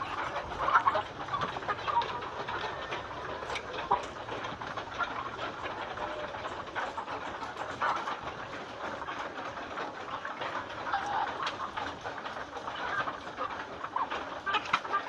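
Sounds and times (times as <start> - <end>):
chickens clucking and cheeping: 0.0 - 15.0
chickens pecking: 0.0 - 15.0.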